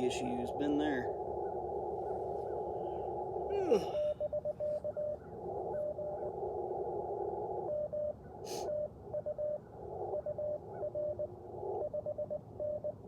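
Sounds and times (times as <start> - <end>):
radio hiss: 0.0 - 12.8.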